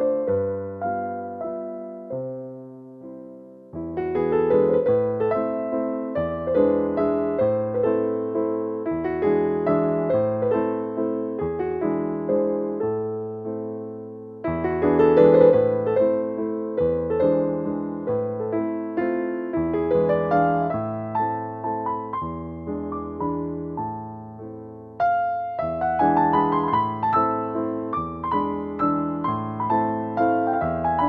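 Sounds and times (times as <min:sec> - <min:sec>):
gentle piano melody: 0:00.0 - 0:31.0.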